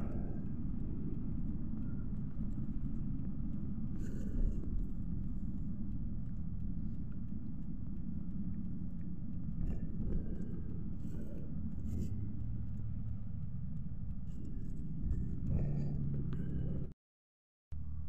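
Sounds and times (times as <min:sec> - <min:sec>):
road noise: 0:00.0 - 0:16.9.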